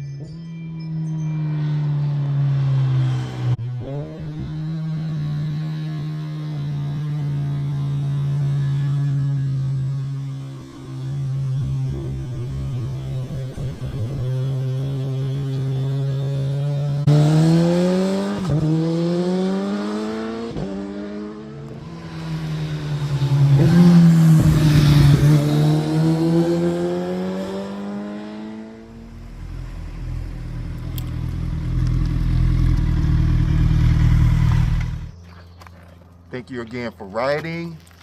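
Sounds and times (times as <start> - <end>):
motorcycle engine accelerating: 0.2 - 35.5.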